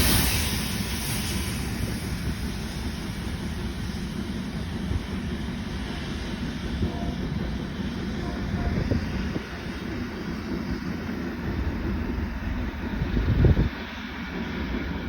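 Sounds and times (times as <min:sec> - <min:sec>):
train rumbling over rails: 0:00.0 - 0:15.0.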